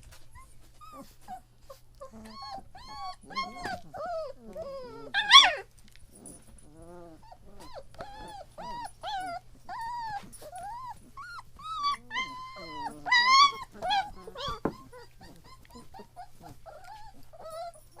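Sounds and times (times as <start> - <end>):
puppies whimpering and crying: 0.0 - 18.0
puppy yelp: 0.4 - 5.7, 6.7 - 18.0.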